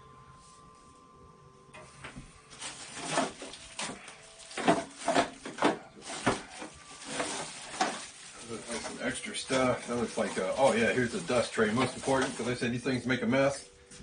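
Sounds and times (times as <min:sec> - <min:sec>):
packing material rustling: 0:01.8 - 0:13.8.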